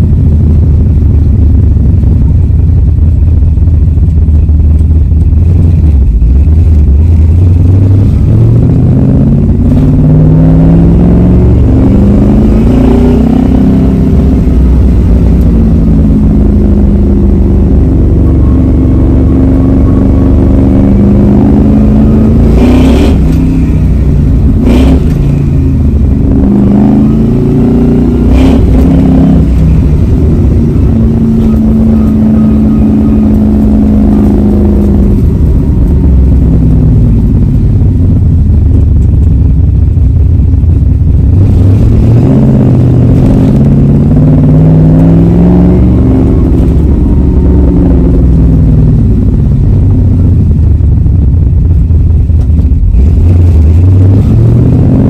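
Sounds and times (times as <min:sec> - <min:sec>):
car engine accelerating: 0:00.0 - 0:55.0
exhaust cracks: 0:00.0 - 0:55.0.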